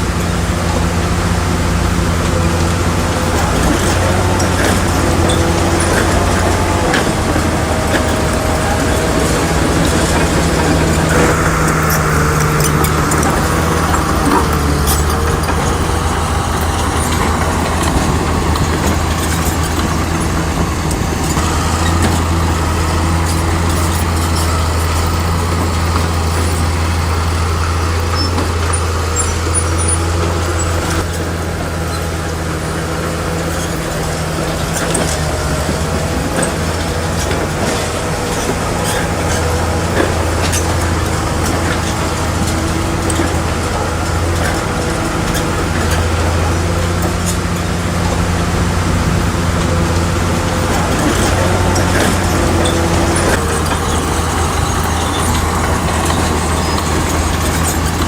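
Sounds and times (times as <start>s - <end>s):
bulldozer diesel engine humming: 0.0s - 58.0s.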